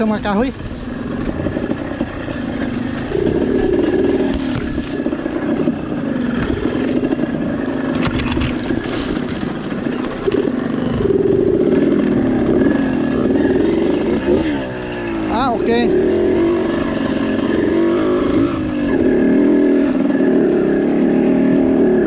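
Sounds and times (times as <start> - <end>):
motorcycle engine revving: 0.0 - 22.0
rattles: 0.4 - 18.7.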